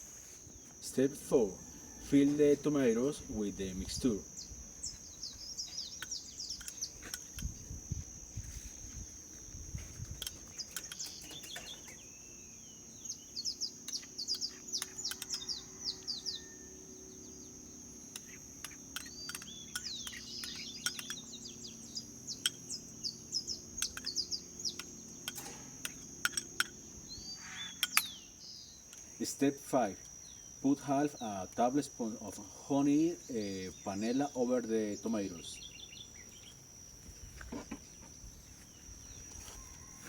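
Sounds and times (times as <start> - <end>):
steady high-pitched whine: 0.0 - 40.0
birds chirping and calling: 1.3 - 7.7, 9.8 - 31.5, 32.2 - 36.6.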